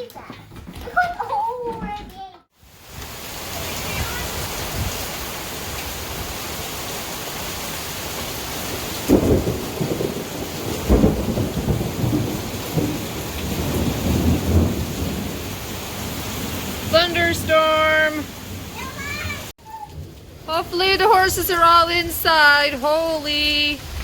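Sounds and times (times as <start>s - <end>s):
heavy rain falling: 2.6s - 24.0s
loud thunderclaps: 2.8s - 6.5s, 7.7s - 22.8s, 23.4s - 24.0s
rolling thunder rumbles: 2.8s - 24.0s.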